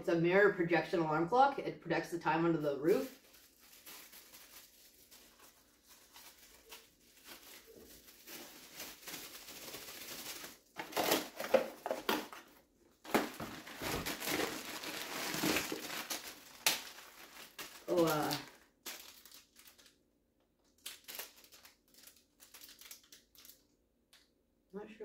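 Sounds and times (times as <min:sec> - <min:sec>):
plastic packaging crinkling: 0:02.9 - 0:24.2.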